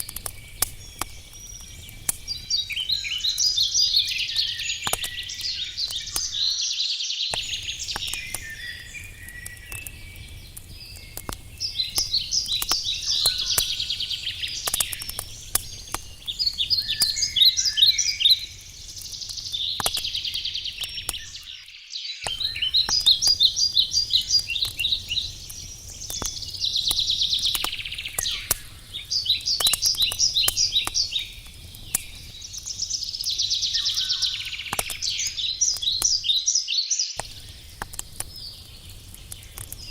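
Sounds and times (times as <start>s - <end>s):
wood fire crackling and popping: 0.0s - 6.6s, 7.3s - 36.6s, 37.2s - 39.9s
songbirds singing trilled phrases: 0.0s - 39.9s.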